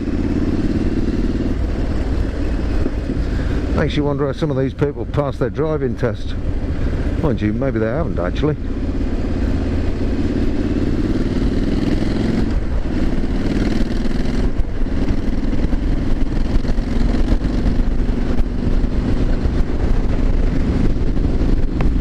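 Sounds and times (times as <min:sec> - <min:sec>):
motorcycle engine accelerating: 0:00.0 - 0:04.4, 0:06.4 - 0:22.0.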